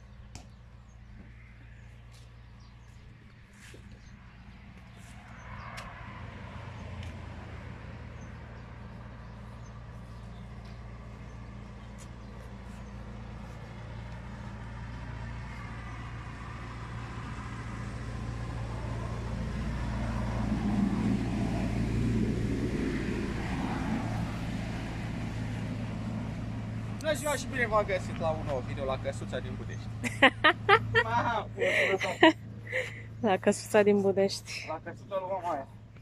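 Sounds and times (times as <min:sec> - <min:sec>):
vehicle engine humming: 0:00.0 - 0:36.0.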